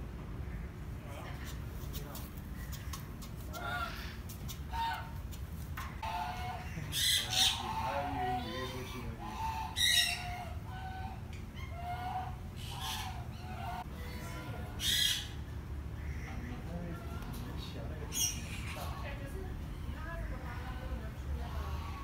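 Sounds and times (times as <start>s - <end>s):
cockatoo calling: 2.6s - 5.4s, 6.0s - 22.0s.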